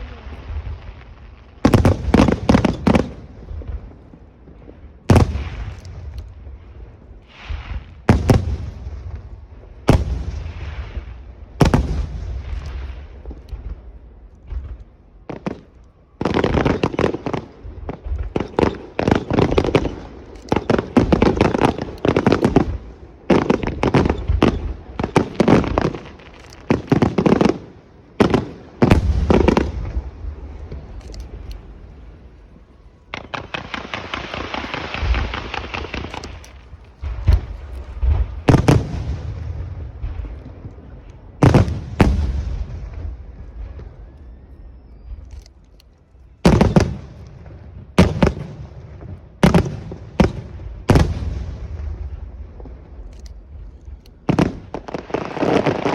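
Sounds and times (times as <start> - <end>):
fireworks bursting with crackling: 0.0 - 55.9.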